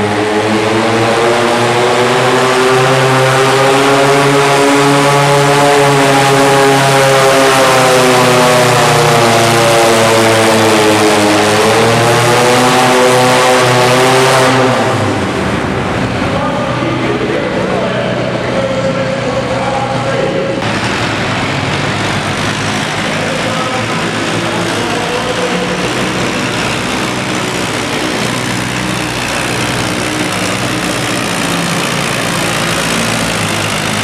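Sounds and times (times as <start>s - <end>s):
tractor engine running hard: 0.0s - 34.0s.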